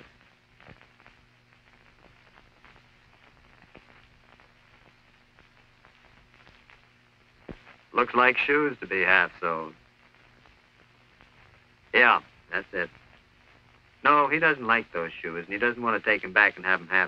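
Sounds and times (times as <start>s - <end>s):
faint steady hum: 0.0s - 17.0s
soft film crackles: 0.0s - 17.0s.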